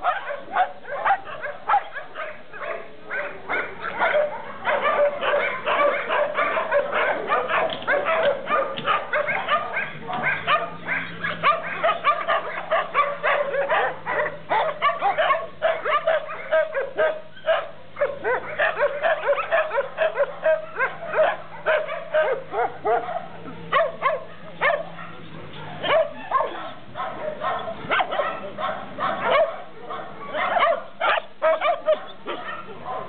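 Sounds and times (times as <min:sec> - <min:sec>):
many dogs barking and yelping: 0:00.0 - 0:33.0.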